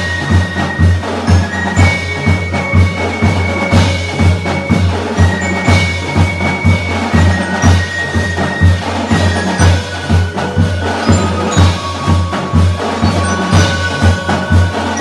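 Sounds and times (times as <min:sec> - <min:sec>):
mallet percussion ringing melody: 0:00.0 - 0:15.0
steady low drum beat: 0:00.0 - 0:15.0.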